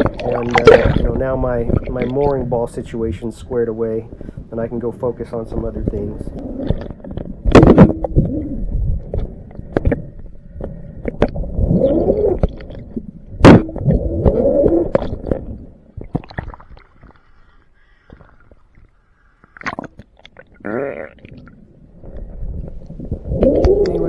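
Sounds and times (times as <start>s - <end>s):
underwater churning and bubbling: 0.0s - 24.0s.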